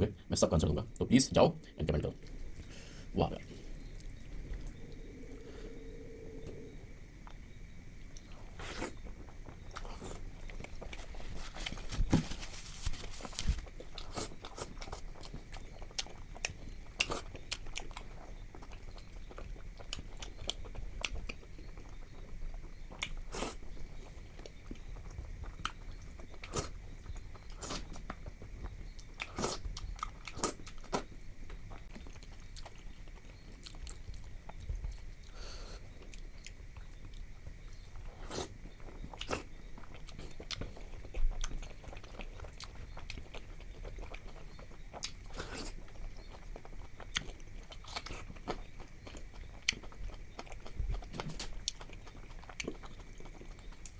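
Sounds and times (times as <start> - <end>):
person chewing food: 2.1 - 53.9.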